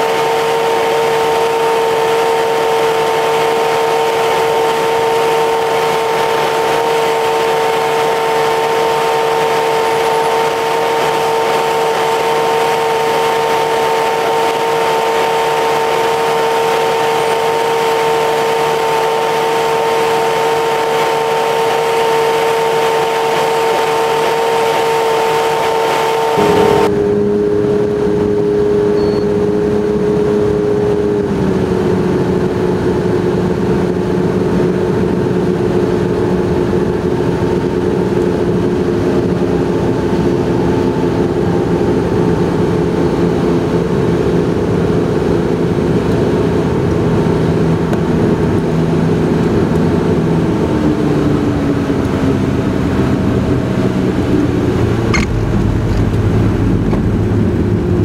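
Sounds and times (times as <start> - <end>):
propeller plane engine droning: 0.0 - 58.0
wheels rumbling on runway: 0.0 - 58.0.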